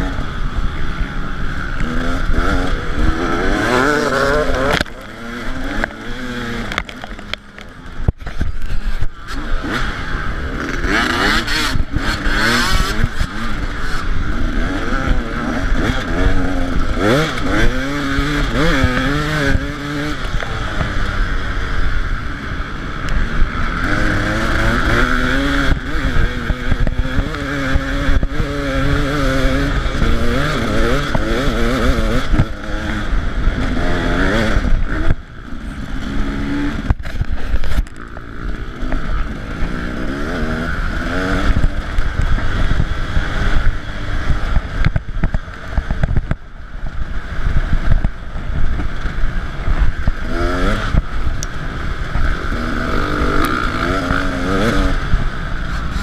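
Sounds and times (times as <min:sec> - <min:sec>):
dirt bike engine revving: 0:00.0 - 0:46.3, 0:47.0 - 0:56.0.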